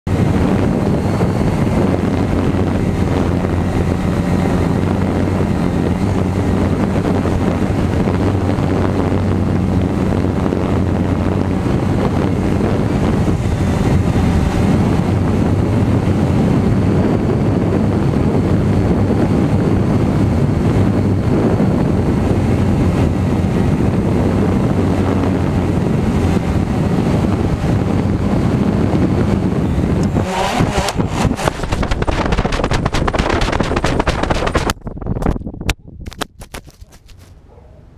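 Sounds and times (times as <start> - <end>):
wind on microphone: 0.0 - 37.5
drone motors humming: 0.1 - 34.3.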